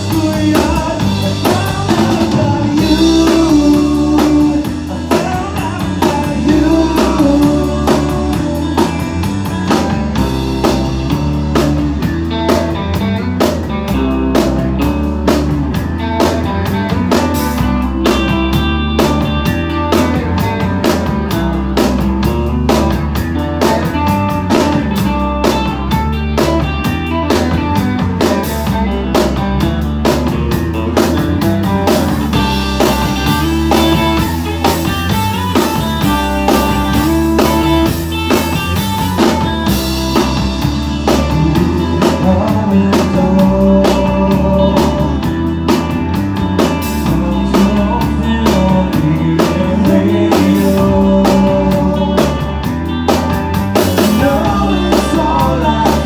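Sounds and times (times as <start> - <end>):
drum kit beat: 0.0 - 56.0
electric guitars: 0.0 - 56.0.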